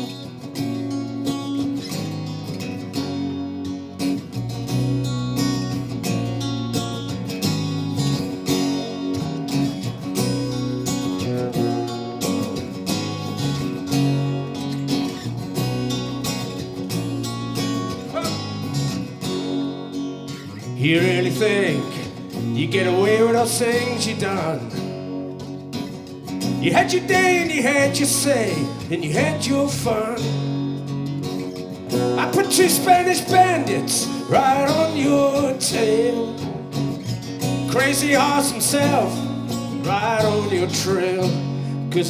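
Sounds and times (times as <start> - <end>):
bass line: 0.0 - 42.0
strummed acoustic guitar: 0.0 - 42.0.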